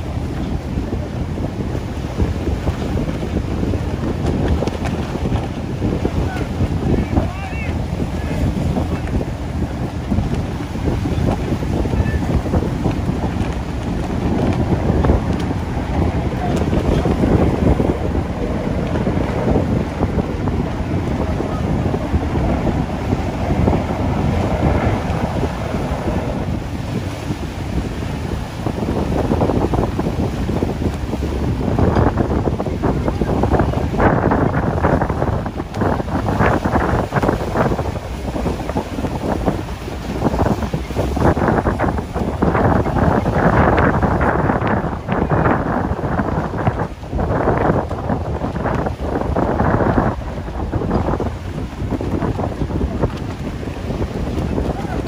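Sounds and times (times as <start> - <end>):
waves breaking on shore: 0.0 - 55.0
wind buffeting microphone: 0.0 - 55.0.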